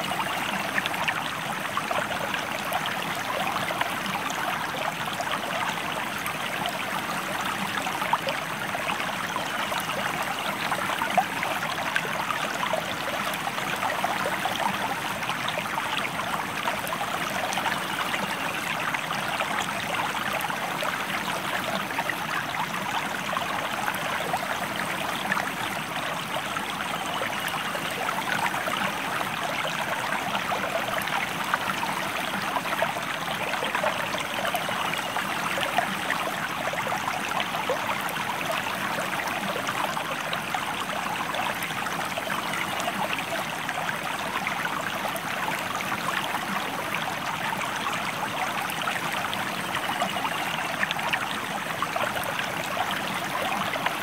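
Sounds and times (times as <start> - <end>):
stream water flowing over rocks: 0.0 - 54.0.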